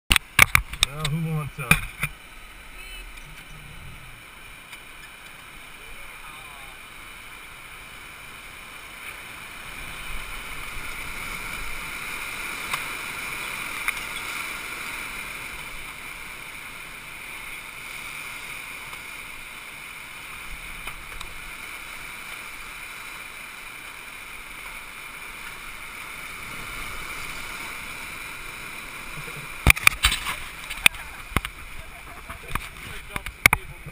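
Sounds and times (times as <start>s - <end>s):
whitewater rushing: 0.1s - 33.9s.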